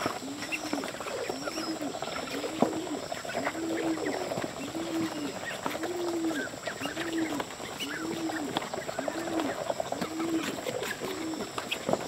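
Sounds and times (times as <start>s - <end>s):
bird low hooting call: 0.0s - 11.5s
birds chirping: 0.0s - 12.0s.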